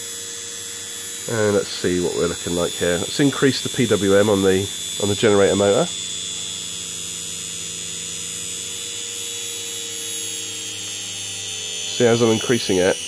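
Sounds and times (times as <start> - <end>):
high electronic whine: 0.0 - 13.0
motor hum: 0.0 - 13.0.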